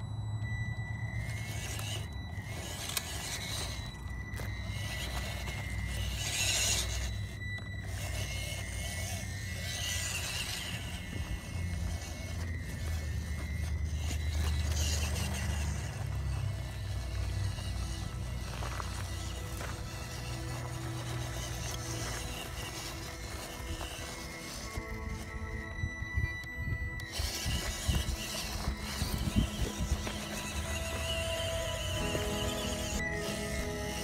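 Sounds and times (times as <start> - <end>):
electric motor whining: 0.0 - 34.0
tyres crunching over gravel: 0.5 - 34.0.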